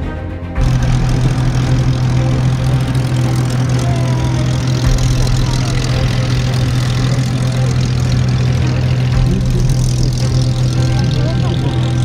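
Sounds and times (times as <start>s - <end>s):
aircraft engine idling: 0.6s - 12.0s.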